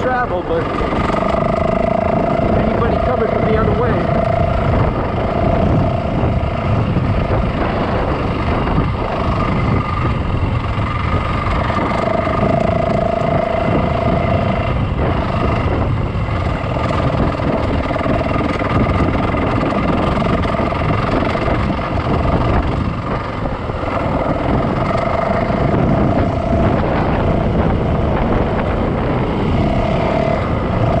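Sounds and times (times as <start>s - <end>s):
dirt bike engine rumbling: 0.0s - 31.0s
steady whine: 0.0s - 31.0s.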